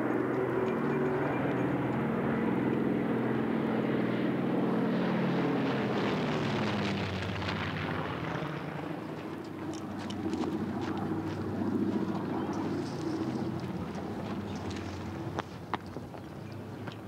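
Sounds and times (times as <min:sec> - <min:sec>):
propeller plane flyover: 0:00.0 - 0:17.0.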